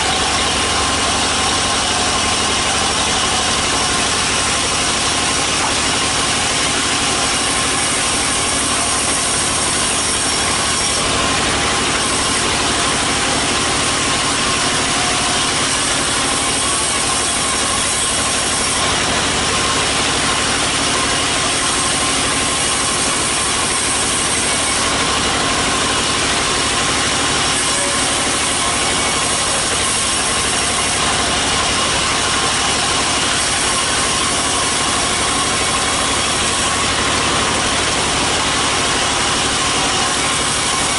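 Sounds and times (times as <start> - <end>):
bandsaw engine running: 0.0 - 40.9.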